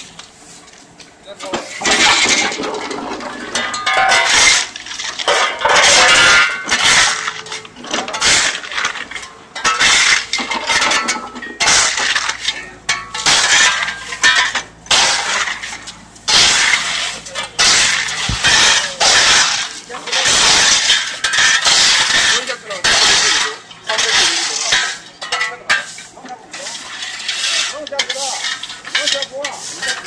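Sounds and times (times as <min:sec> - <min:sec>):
shovels scraping gravel: 0:00.0 - 0:30.0.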